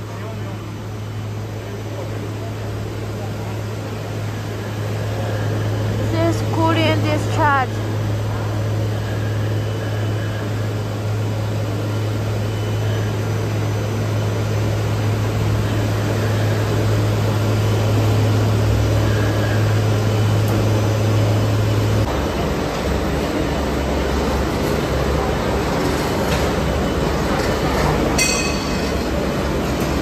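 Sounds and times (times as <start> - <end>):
mechanical din of motors and blowers: 0.0 - 30.0.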